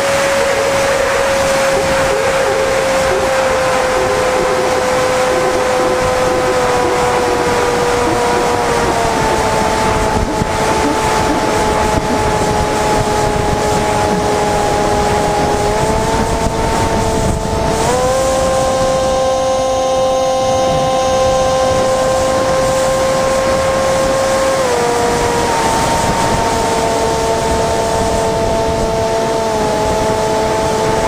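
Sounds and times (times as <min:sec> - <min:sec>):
wind rushing: 0:00.0 - 0:19.2, 0:21.7 - 0:29.4
electric motor and propeller whining: 0:00.0 - 0:31.0.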